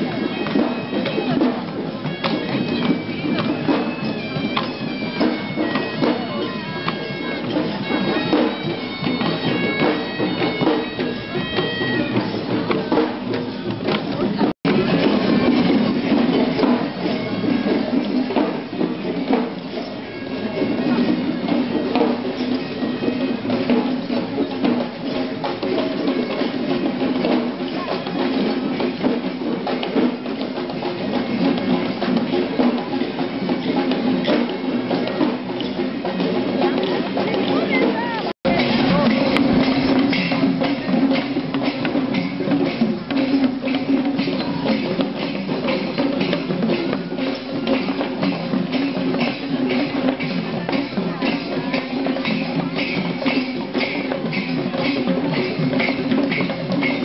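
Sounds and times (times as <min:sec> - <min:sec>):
hand drums beating: 0:00.0 - 0:57.0.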